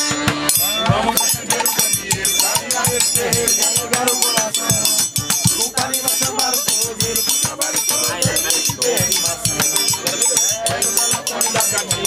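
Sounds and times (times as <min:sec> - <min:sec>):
live folk music: 0:00.0 - 0:12.0
low drum beats: 0:00.0 - 0:12.0
metal triangle ringing: 0:00.5 - 0:12.0.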